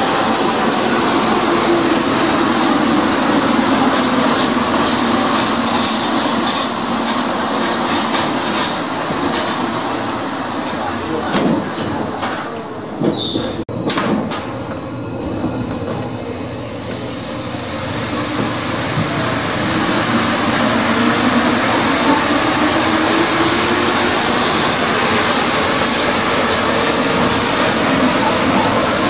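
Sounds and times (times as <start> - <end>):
train rolling noise: 0.0 - 29.0.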